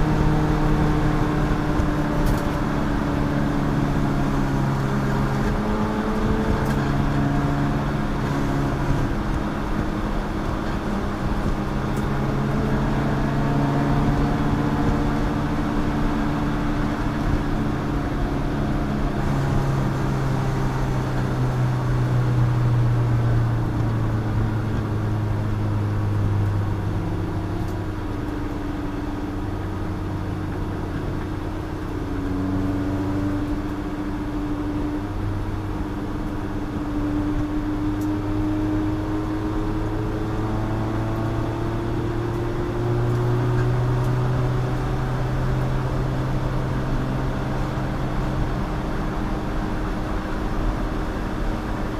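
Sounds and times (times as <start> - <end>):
race car engine revving: 0.0 - 51.9
road and wind noise: 0.0 - 51.9.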